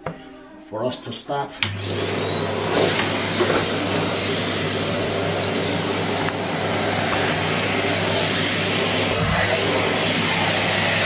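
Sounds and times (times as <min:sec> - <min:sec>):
vacuum cleaner running: 0:01.6 - 0:11.0.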